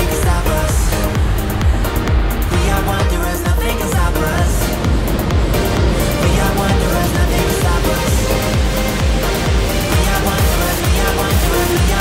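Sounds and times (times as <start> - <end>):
electronic music: 0.0 - 12.0
fast kick-drum beat: 0.0 - 12.0
sustained synth notes: 0.0 - 12.0.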